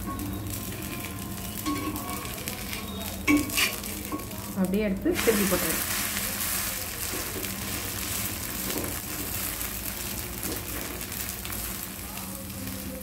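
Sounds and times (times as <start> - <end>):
batter sizzling in oil: 0.0 - 13.0.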